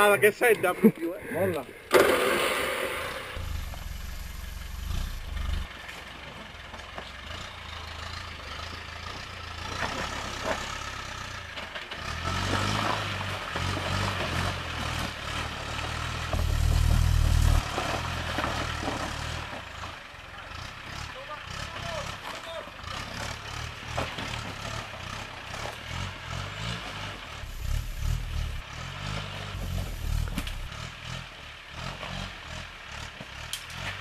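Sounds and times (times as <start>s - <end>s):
off-road vehicle engine revving: 0.8s - 34.0s.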